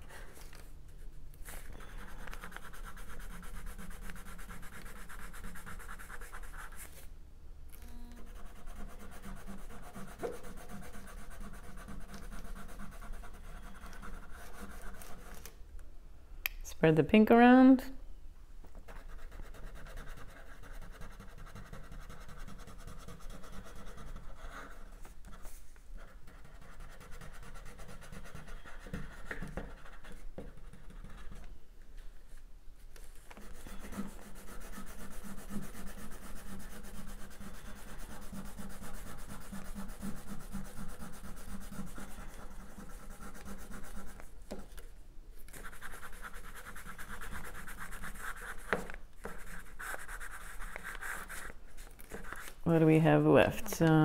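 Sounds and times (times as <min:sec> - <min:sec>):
colouring stick scratching paper: 0:01.4 - 0:07.1, 0:08.2 - 0:15.5, 0:18.9 - 0:31.6, 0:33.3 - 0:44.7, 0:45.5 - 0:53.8.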